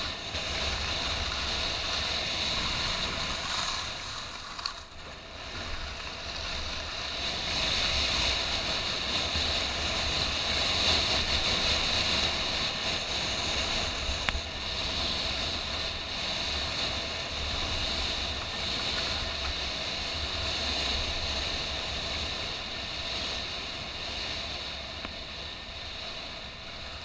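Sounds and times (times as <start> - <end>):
skis sliding on snow: 0.0 - 27.0
wind buffeting microphone: 0.0 - 27.0.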